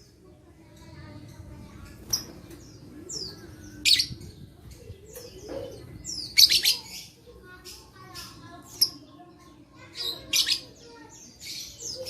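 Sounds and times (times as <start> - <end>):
lovebirds chirping and squawking: 0.0 - 12.0.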